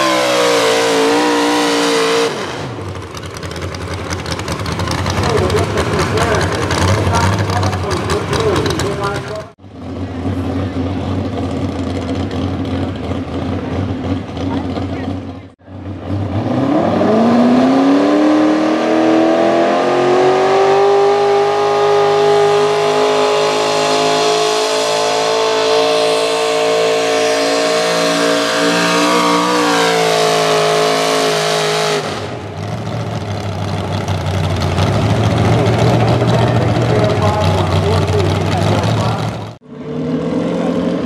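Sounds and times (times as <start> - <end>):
truck engine revving under load: 0.0 - 41.0.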